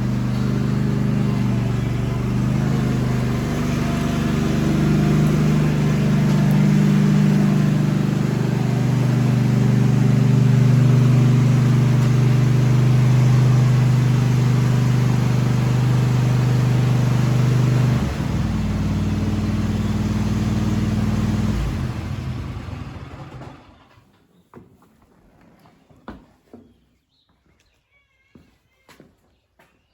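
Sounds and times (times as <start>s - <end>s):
lawnmower engine running: 0.0s - 24.0s.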